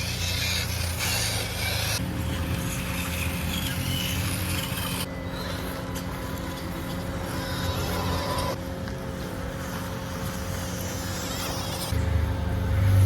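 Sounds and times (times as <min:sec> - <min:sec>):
small electric motors whirring: 0:00.0 - 0:08.6, 0:09.2 - 0:13.0.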